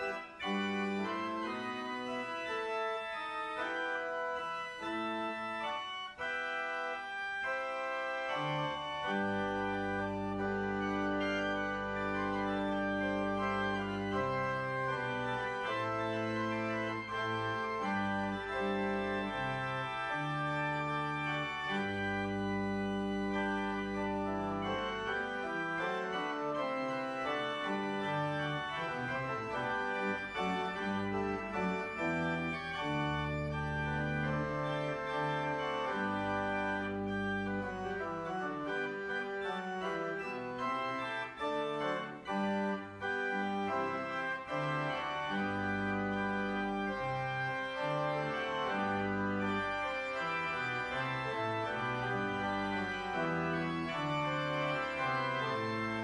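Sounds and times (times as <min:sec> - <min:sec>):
church organ chords: 0:00.0 - 0:56.0
deep organ pedal bass notes: 0:00.0 - 0:56.0.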